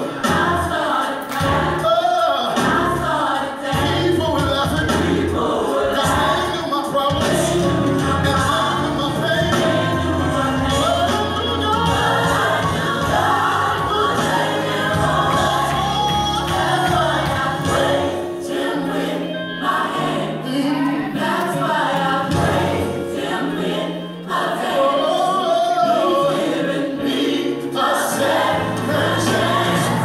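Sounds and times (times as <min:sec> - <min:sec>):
gospel choir singing: 0:00.0 - 0:30.0.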